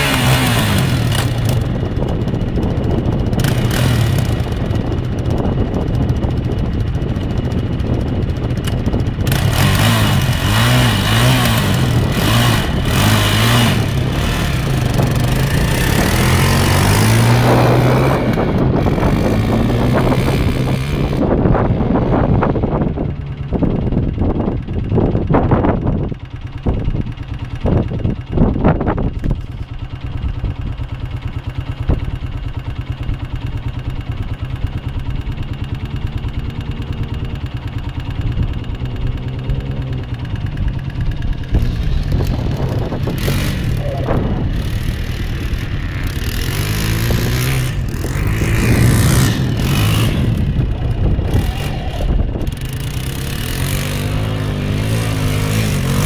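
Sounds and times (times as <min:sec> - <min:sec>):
quad bike engine running: 0:00.0 - 0:56.0
wind gusts on microphone: 0:00.4 - 0:29.5, 0:38.1 - 0:56.0.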